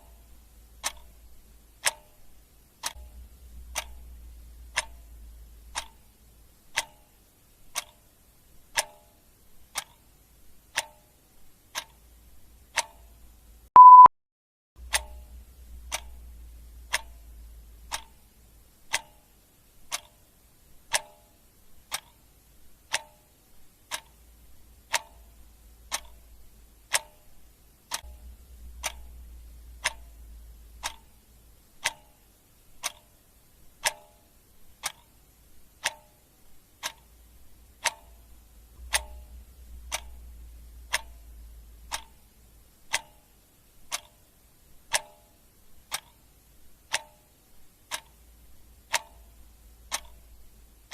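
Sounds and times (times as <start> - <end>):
clock ticking: 0.0 - 14.1, 14.8 - 50.9
faint low hum: 0.0 - 14.1, 14.8 - 50.9.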